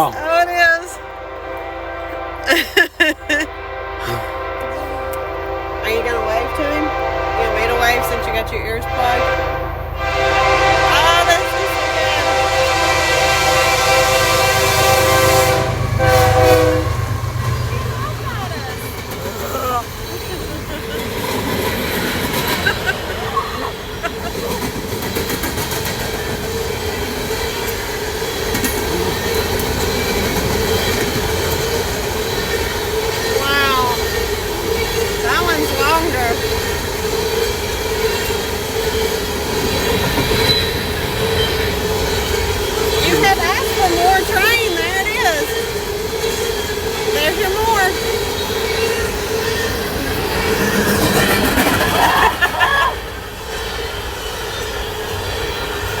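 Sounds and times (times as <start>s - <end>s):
constant tone: 0.0s - 51.6s
train wheels rumbling on rail: 0.0s - 56.0s.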